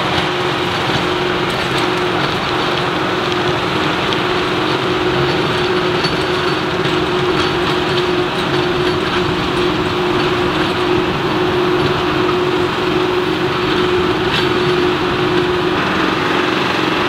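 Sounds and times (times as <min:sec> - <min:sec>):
rotary tiller churning soil: 0:00.0 - 0:17.0
tractor diesel engine under load: 0:00.0 - 0:17.0.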